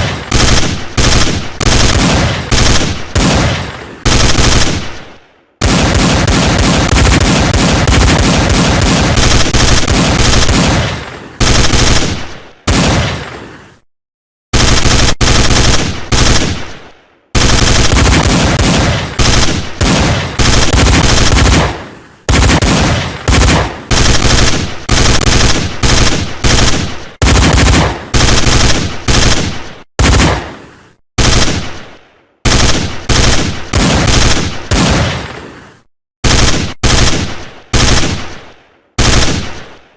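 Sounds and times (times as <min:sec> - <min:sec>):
machine-gun fire bursts: 0:00.0 - 0:13.5, 0:14.5 - 0:35.5, 0:36.2 - 0:39.9.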